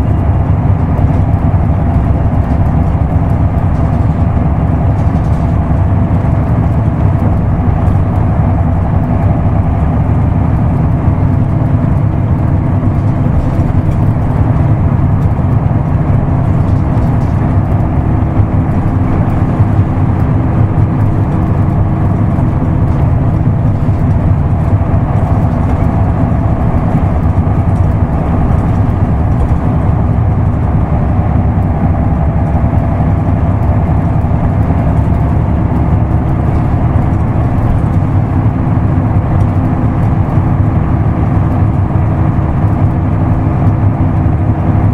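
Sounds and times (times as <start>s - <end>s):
bus diesel engine running: 0.0s - 44.9s
road rumble: 0.0s - 44.9s.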